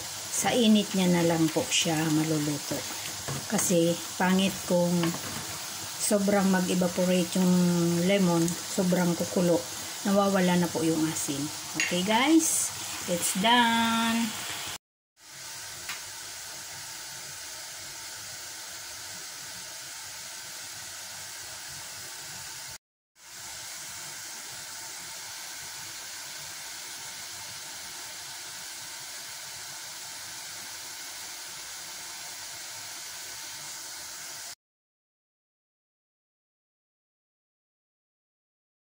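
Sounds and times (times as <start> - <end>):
steady hiss: 0.0 - 34.6.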